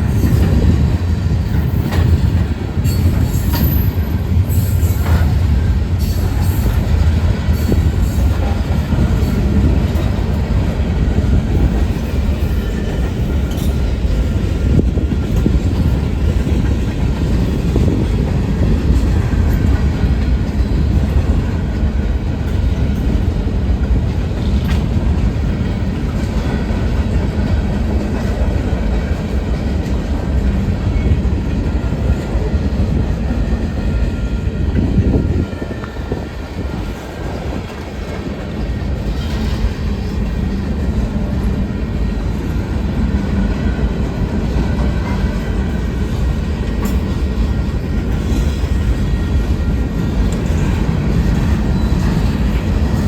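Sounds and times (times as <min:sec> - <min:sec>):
freight train rumbling: 0:00.0 - 0:53.0
train wheels clickety-clack: 0:00.0 - 0:53.0.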